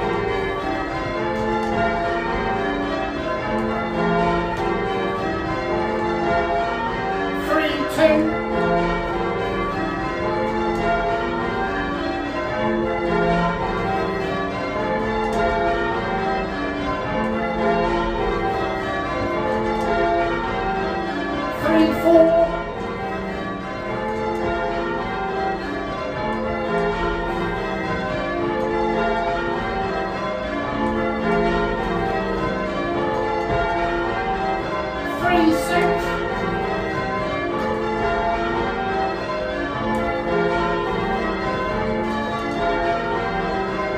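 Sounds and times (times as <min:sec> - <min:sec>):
church bells ringing in changes: 0:00.0 - 0:43.9.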